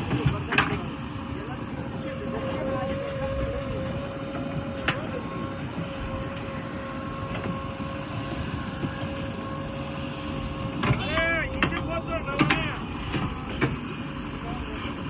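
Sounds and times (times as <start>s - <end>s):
heavy diesel engine with whine: 0.0s - 15.0s.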